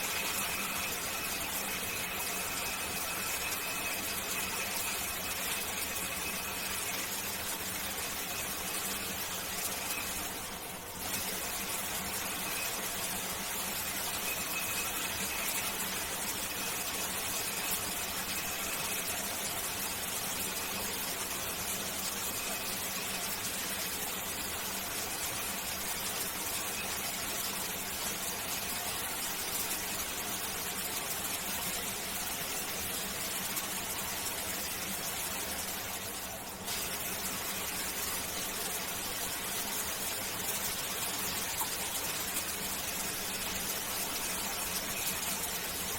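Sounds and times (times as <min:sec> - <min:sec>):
faint high whine: 0:00.0 - 0:45.9
shower water spraying: 0:00.0 - 0:45.9.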